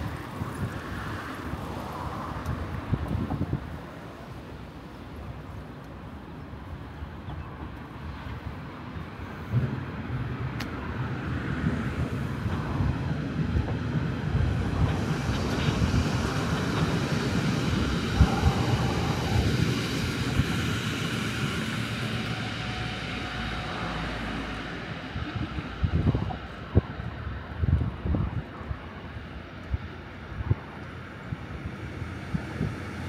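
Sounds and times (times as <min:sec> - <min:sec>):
train passing on tracks: 0:00.0 - 0:33.0.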